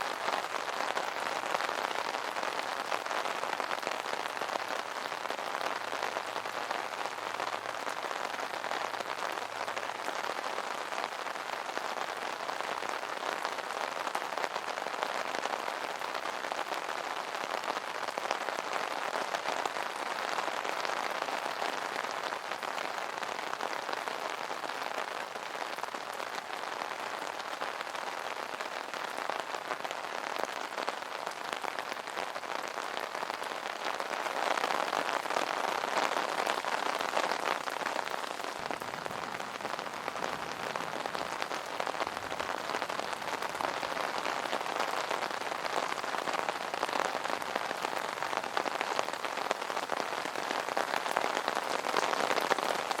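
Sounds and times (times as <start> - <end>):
rain pattering on an umbrella: 0.0 - 53.0.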